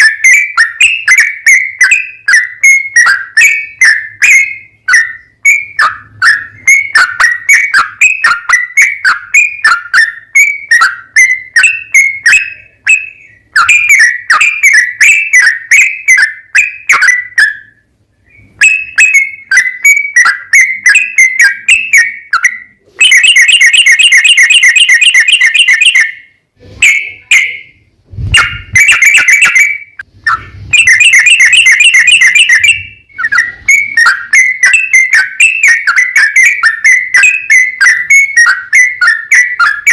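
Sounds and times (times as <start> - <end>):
bulbul singing whistled notes: 0.0 - 39.9
rapid rolling trill: 0.0 - 39.9.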